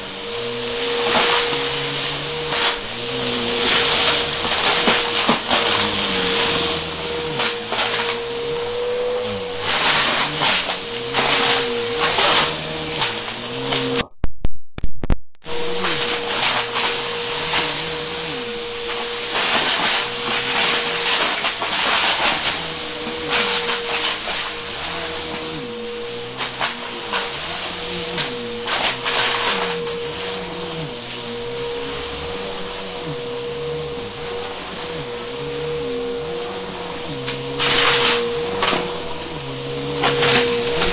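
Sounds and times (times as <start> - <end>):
vacuum cleaner motor whine: 0.0 - 14.1, 15.5 - 40.9.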